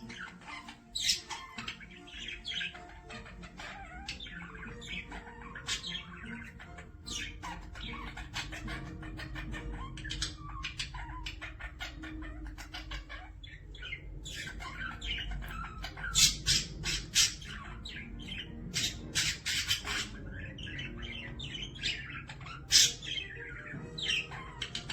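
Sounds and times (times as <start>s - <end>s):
cockatiel chirping and squawking: 0.0s - 24.9s.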